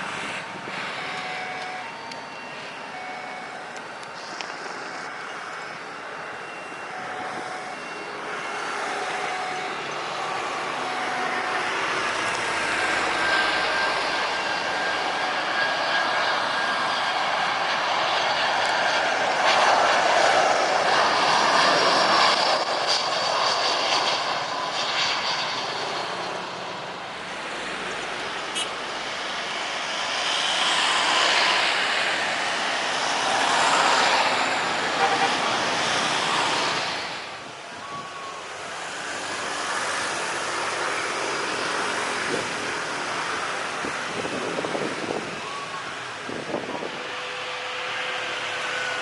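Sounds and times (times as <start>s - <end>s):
jet airliner passing low: 0.0s - 49.0s.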